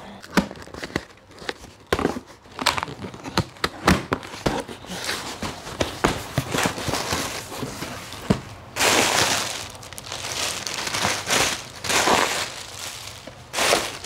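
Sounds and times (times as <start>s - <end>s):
plastic packing crinkling: 0.2s - 14.0s.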